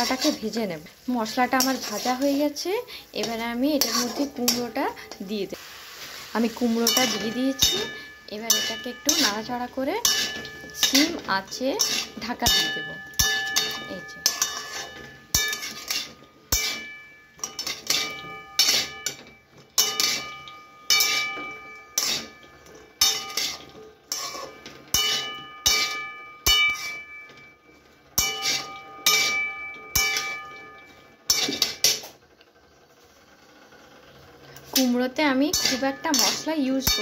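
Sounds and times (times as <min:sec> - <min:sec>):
metal spatula clanking in pan: 0:00.0 - 0:05.5, 0:06.5 - 0:32.2, 0:34.5 - 0:37.0.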